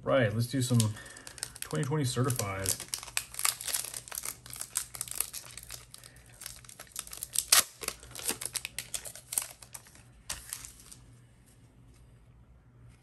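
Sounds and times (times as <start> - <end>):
card pack wrapper crinkling and tearing: 0.6 - 11.0.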